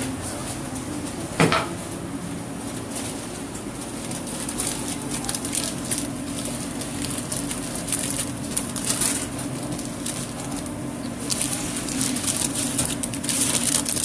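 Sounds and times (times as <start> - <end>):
low kitchen hum: 0.0 - 14.0.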